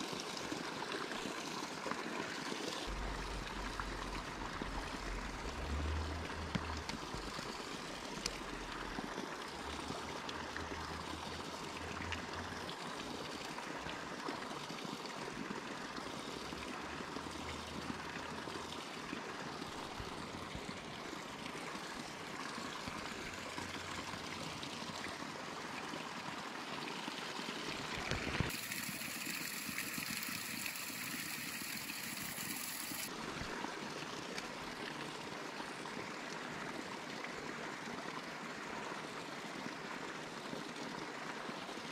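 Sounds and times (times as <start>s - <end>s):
stream flowing over rocks: 0.0s - 41.9s.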